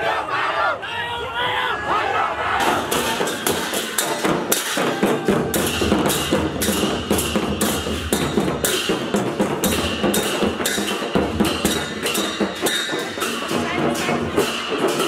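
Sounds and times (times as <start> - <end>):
brass cymbals clashing: 2.6 - 15.0.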